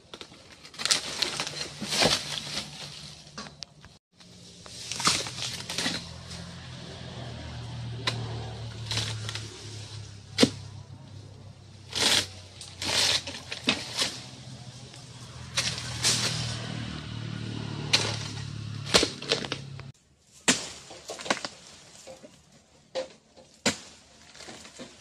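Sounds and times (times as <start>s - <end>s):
pole scraping palm stalks: 0.0s - 25.0s.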